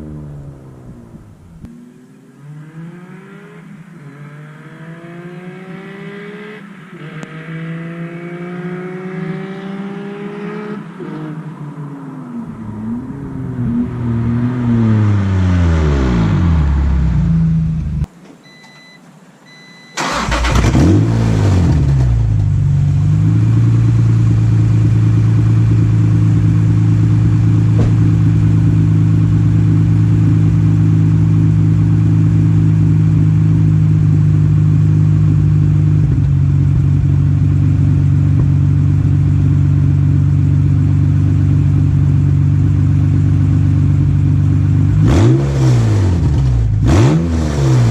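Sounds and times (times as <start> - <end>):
car engine revving and idling: 0.0 - 18.1, 20.0 - 47.9.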